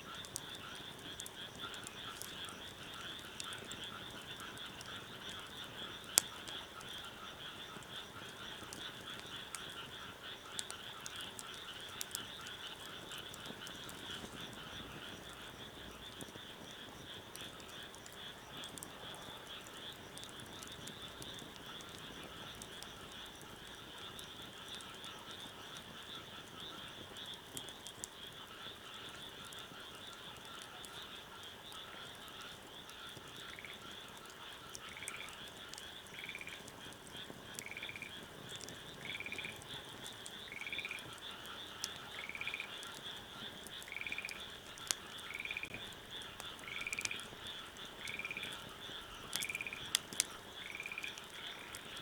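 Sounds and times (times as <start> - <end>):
chorus of frogs calling: 0.0 - 52.0.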